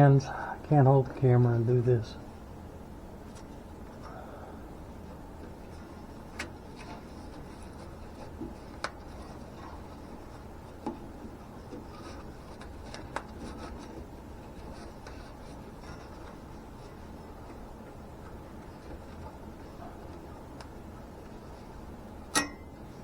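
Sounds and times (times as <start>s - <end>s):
steady low hum: 0.0s - 23.0s
hands rubbing and handling wiring: 3.2s - 4.1s, 5.0s - 23.0s.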